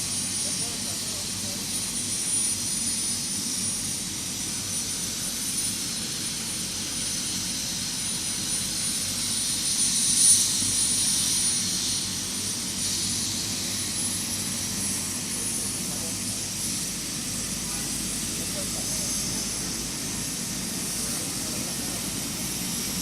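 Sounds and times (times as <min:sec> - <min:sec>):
helicopter turbine engine running: 0:00.0 - 0:23.0.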